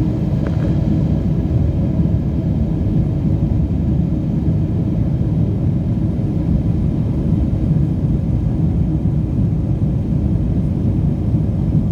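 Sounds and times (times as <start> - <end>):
airliner cabin engine rumble: 0.0 - 11.9.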